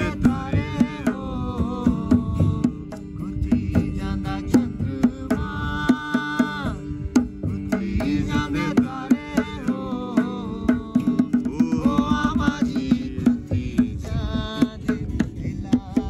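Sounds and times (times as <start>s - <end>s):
acoustic guitar: 0.0s - 16.0s
hand drum strokes: 0.0s - 16.0s
man singing: 0.0s - 16.0s.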